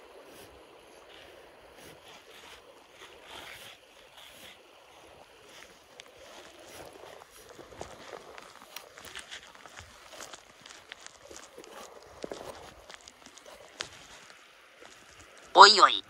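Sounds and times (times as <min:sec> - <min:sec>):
river running over stones: 0:00.0 - 0:16.0.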